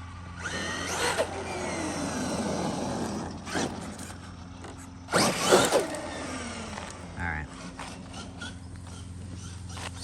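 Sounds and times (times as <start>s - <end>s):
road and tyre noise: 0.0s - 10.0s
electric motor whining: 0.4s - 10.0s.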